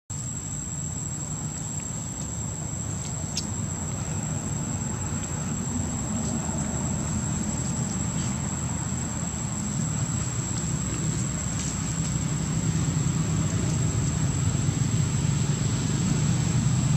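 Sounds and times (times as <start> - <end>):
high-pitched insect drone: 0.1 - 16.9
low steady rumble: 0.1 - 16.9.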